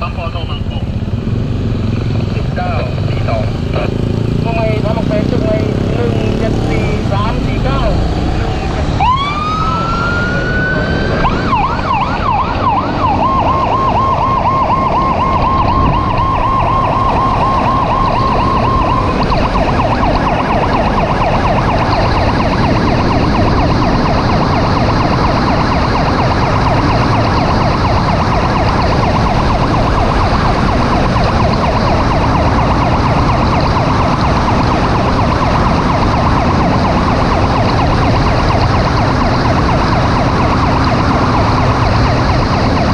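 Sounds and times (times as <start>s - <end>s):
vehicle driving: 0.0s - 42.9s
electronic siren wailing and yelping: 2.5s - 42.9s.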